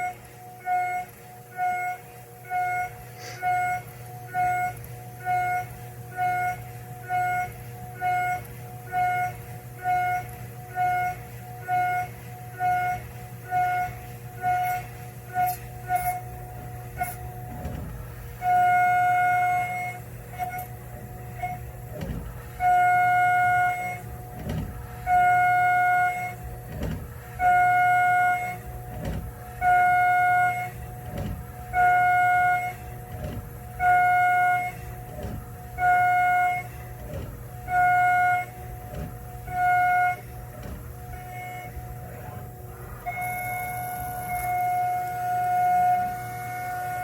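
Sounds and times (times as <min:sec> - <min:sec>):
milling cutter high whine: 0:00.0 - 0:47.0
spindle low hum: 0:00.0 - 0:47.0.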